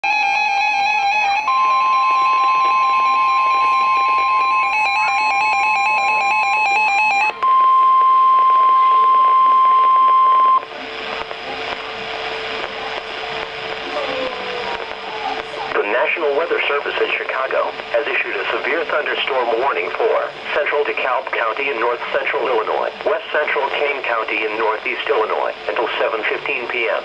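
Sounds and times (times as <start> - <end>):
faint hum and hiss: 0.6 - 27.0.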